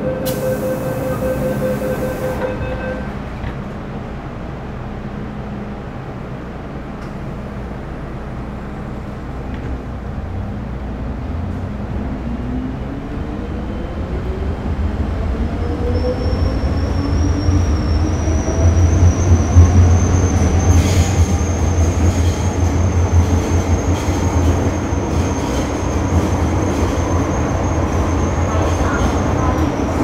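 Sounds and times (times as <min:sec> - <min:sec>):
train rumbling with rising whine: 0:00.0 - 0:30.0.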